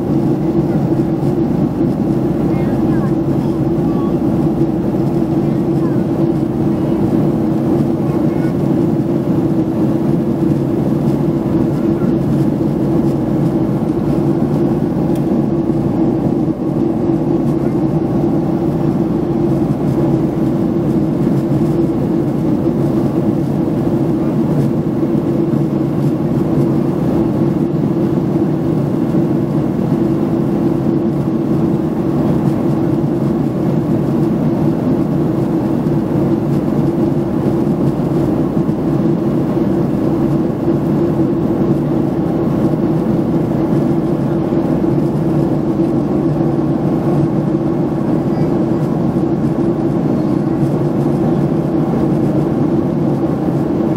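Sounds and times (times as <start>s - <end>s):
jet engine roar in cabin: 0.0s - 53.9s.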